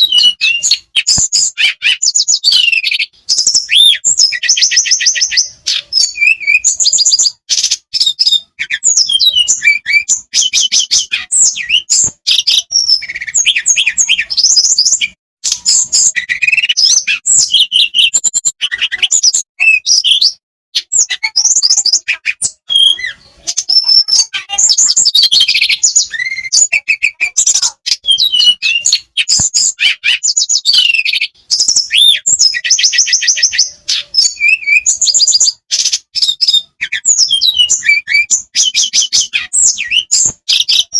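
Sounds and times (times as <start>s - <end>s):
songbird trilling and chirping: 0.0s - 40.9s.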